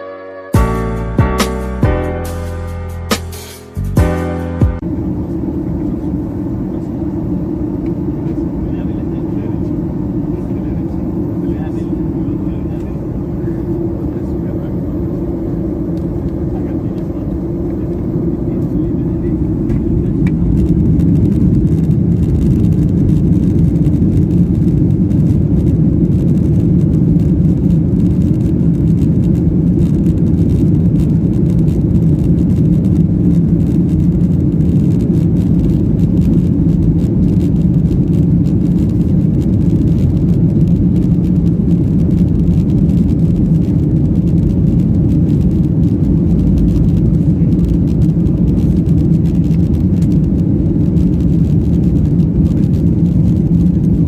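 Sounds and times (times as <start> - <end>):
jet engines rumbling in cabin: 0.6 - 54.0.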